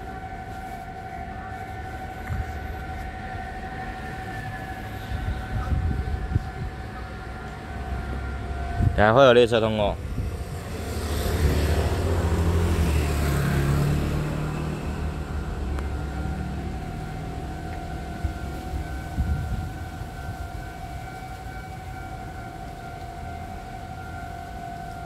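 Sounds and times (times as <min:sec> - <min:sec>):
level-crossing warning alarm: 0:00.0 - 0:25.0
vehicle low rumble: 0:00.0 - 0:25.0.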